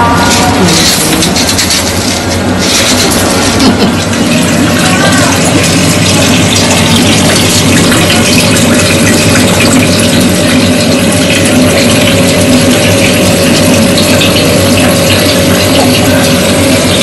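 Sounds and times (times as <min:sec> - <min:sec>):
circulating water rushing: 0:00.0 - 0:17.0
pump humming: 0:00.0 - 0:17.0.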